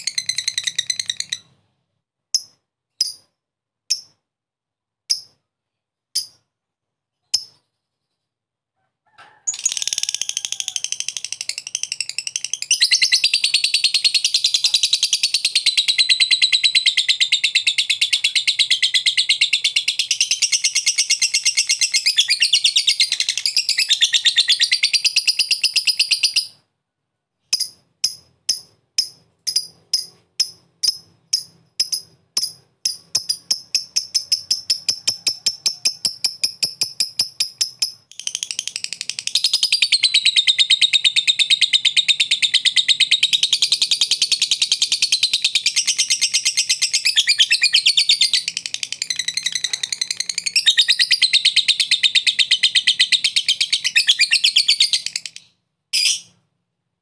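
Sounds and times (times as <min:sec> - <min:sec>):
lovebird chattering trill: 0:00.0 - 0:01.6, 0:09.5 - 0:26.6, 0:27.5 - 0:56.3.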